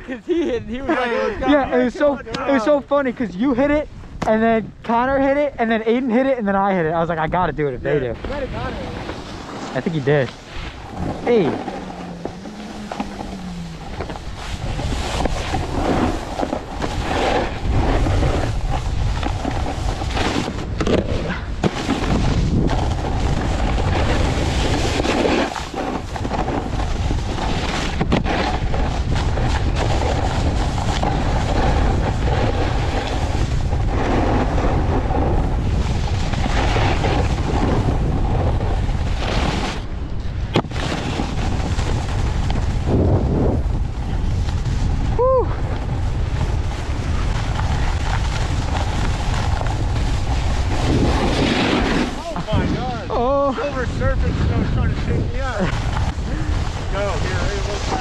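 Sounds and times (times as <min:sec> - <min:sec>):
wind on microphone: 0:00.0 - 0:58.0
snowboard scraping on icy snow: 0:00.1 - 0:04.5, 0:07.8 - 0:58.0.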